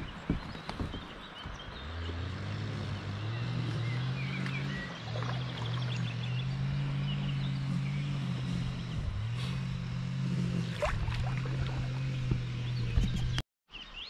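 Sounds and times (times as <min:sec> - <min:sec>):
low motor hum: 0:00.0 - 0:13.4.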